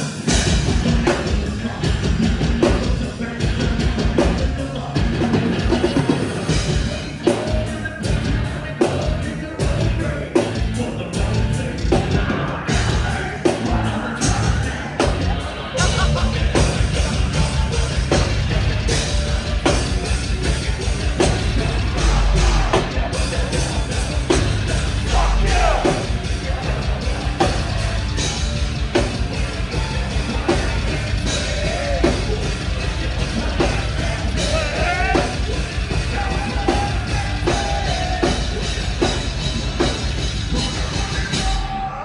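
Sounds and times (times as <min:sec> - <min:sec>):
distorted guitar: 0:00.0 - 0:42.0
hard-hitting drums: 0:00.0 - 0:42.0
sung and yelled vocals: 0:00.0 - 0:42.0.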